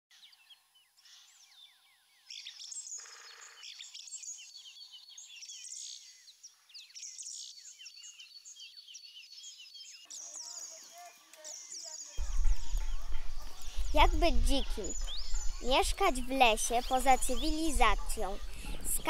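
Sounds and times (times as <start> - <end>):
small birds chirping and singing: 0.1 - 19.0.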